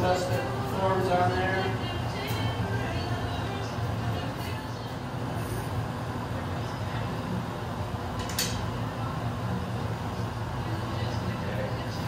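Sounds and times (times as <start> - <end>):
gas furnace roaring: 0.0 - 12.0.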